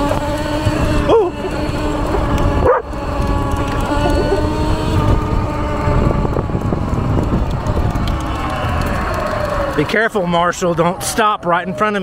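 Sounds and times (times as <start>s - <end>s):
electric motorbike motor whining: 0.0s - 12.0s
wind rumble on microphone: 0.0s - 12.0s.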